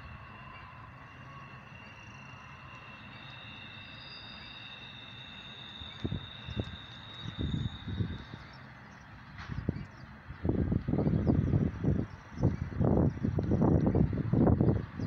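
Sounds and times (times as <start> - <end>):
high whine: 0.0 - 14.6
freight train rumbling on rails: 0.0 - 15.0.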